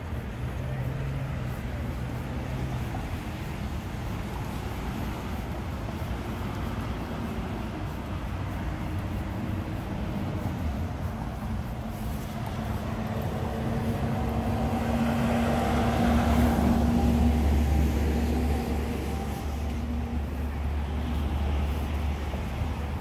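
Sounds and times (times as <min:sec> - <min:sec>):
low traffic rumble: 0:00.0 - 0:23.0
passing vehicle engine hum: 0:00.0 - 0:23.0.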